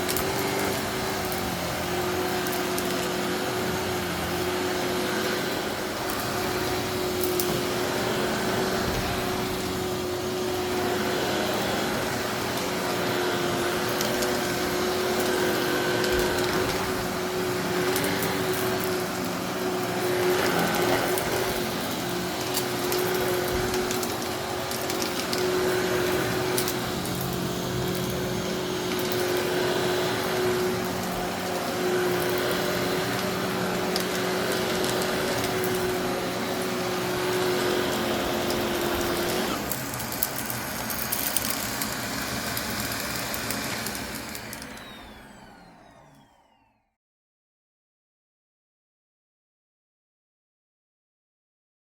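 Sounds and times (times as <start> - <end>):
gravel clicking in vacuum: 0.0 - 10.1, 10.8 - 45.2
vacuum cleaner motor whine: 0.0 - 47.0.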